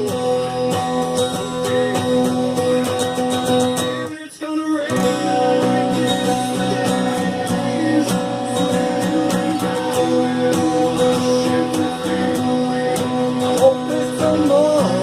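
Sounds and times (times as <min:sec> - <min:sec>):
person singing: 0:00.0 - 0:03.0, 0:03.6 - 0:15.0
rock guitar chords: 0:00.0 - 0:15.0.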